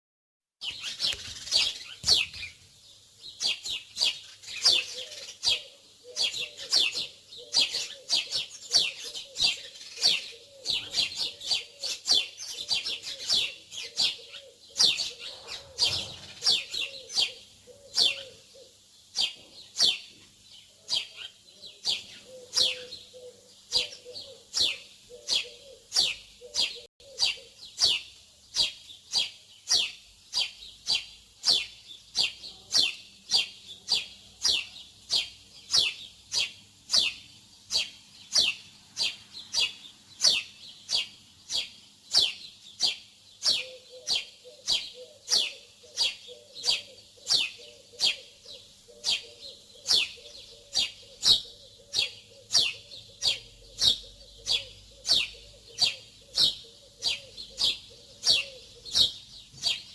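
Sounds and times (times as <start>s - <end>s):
small songbird chirping: 0.6s - 59.9s.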